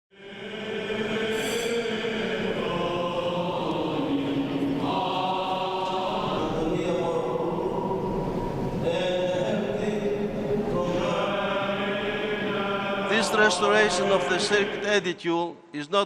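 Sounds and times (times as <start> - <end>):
choir chanting long notes: 0.1 - 15.2.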